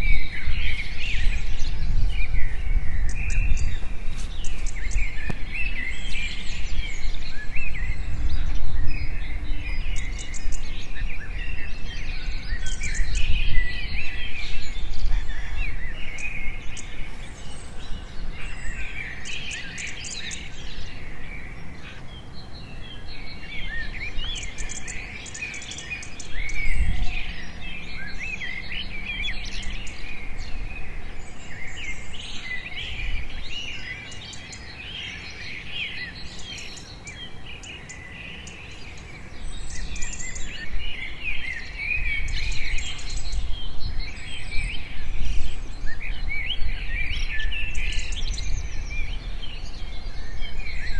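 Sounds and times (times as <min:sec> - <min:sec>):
wild birds chirping and singing: 0:00.0 - 0:50.9.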